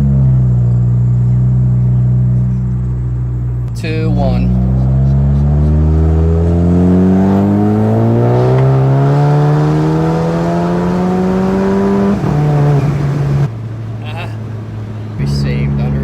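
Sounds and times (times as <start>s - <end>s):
turbocharged car engine revving: 0.0s - 16.0s.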